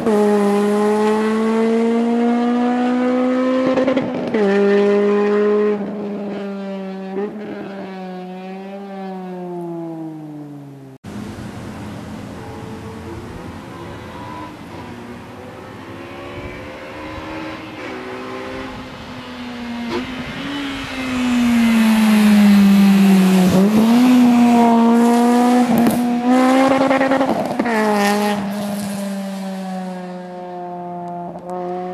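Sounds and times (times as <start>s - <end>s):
car engine revving high: 0.0s - 10.4s, 12.5s - 31.9s.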